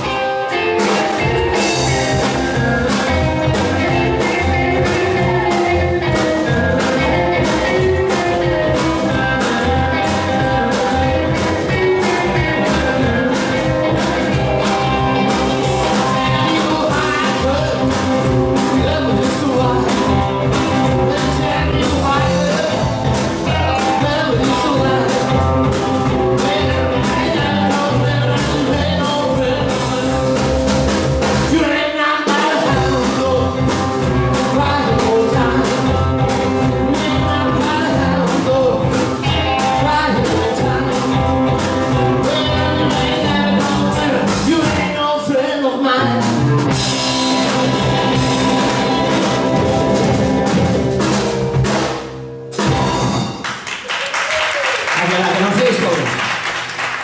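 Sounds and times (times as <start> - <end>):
drum kit beat: 0.0 - 45.1, 46.0 - 57.0
electric guitars: 0.0 - 57.0
slapped upright bass: 1.2 - 31.6, 32.6 - 45.0, 46.0 - 53.3.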